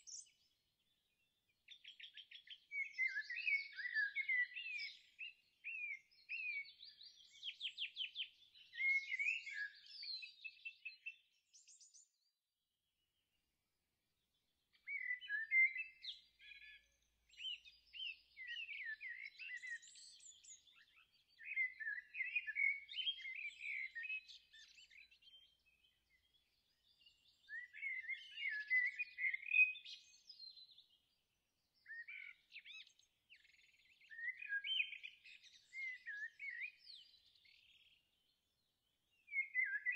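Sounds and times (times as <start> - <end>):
songbirds chirping and singing: 0.0 - 12.4, 14.1 - 39.9.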